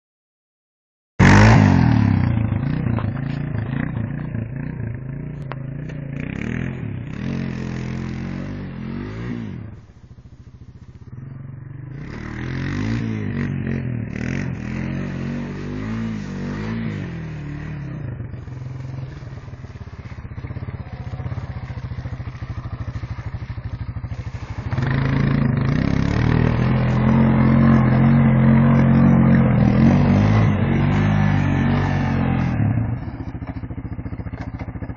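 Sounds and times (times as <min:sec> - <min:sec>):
atv engine revving: 0:01.2 - 0:34.9.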